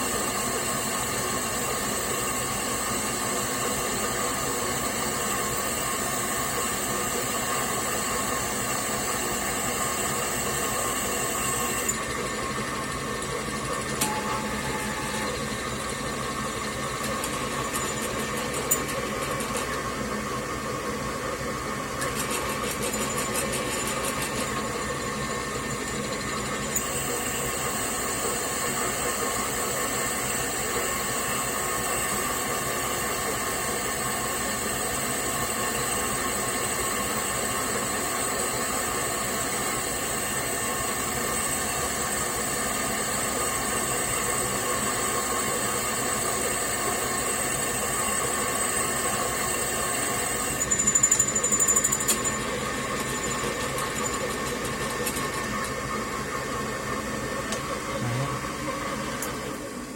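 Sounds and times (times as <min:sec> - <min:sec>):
metal lathe hum and whine: 0:00.0 - 0:59.9.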